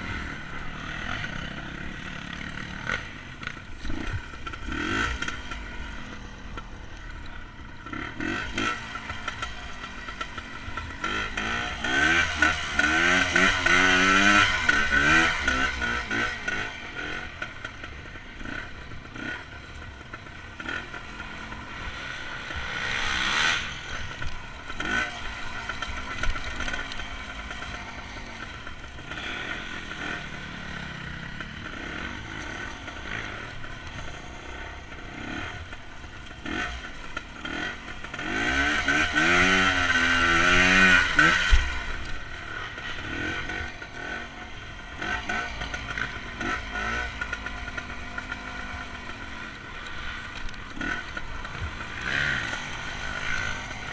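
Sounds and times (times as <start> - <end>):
dirt bike engine revving: 0.0 - 53.9
bike knocking and rattling: 0.7 - 53.9.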